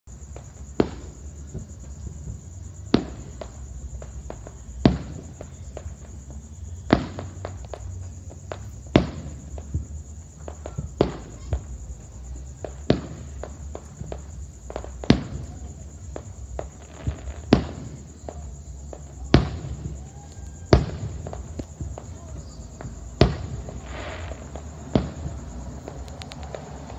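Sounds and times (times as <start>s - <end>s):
fireworks booming: 0.1s - 26.9s
fireworks pops and crackles: 0.1s - 26.9s.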